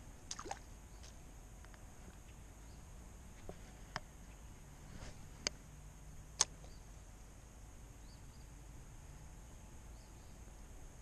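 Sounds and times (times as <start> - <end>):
low outdoor background: 0.0 - 11.0.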